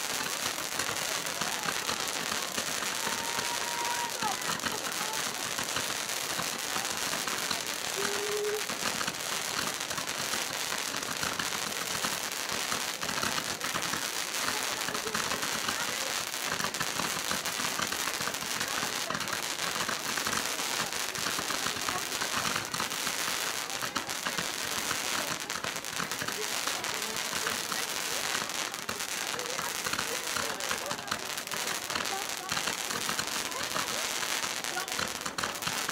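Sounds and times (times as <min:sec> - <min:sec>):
fireworks crackling and popping: 0:00.0 - 0:35.9.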